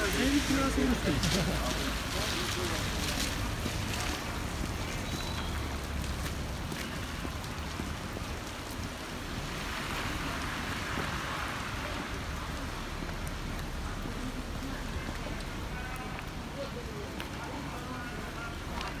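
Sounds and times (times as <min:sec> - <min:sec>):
rain on wet paving: 0:00.0 - 0:19.0.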